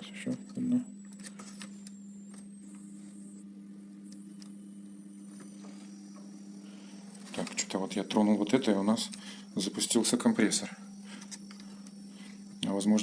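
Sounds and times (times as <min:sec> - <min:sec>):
constant electrical hum: 0:00.0 - 0:13.0
refrigerator compressor hum: 0:00.0 - 0:13.0.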